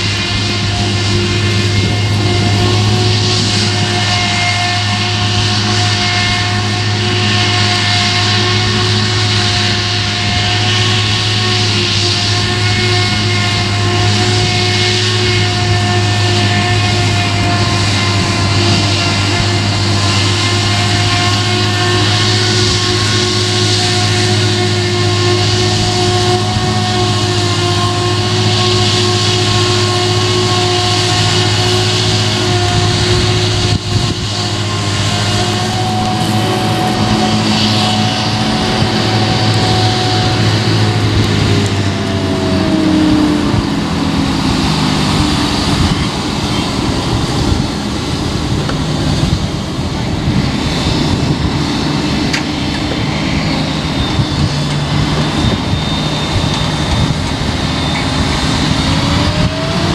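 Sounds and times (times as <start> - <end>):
forage harvester drone and whine: 0.0 - 59.9
heavy diesel engine noise: 0.0 - 59.9.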